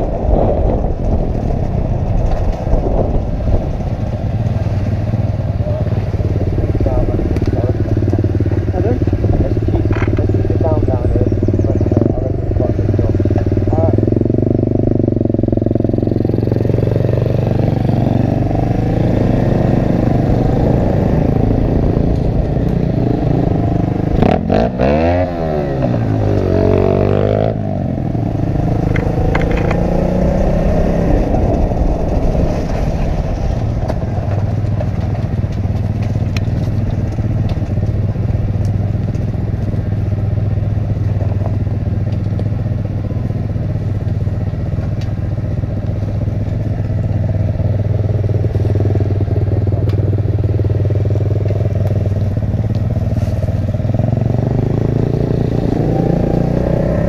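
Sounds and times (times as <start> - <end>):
pit bike engine running: 0.0 - 57.0.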